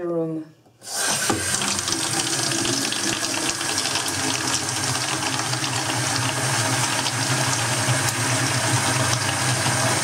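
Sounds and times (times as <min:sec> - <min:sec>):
low hum in plumbing: 0:00.0 - 0:10.0
water running into bucket: 0:00.8 - 0:10.0.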